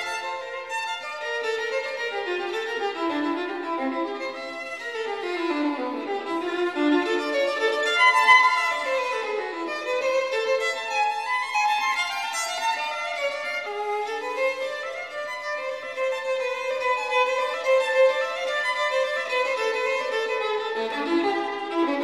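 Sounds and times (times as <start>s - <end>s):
violin playing quick runs: 0.0s - 22.0s.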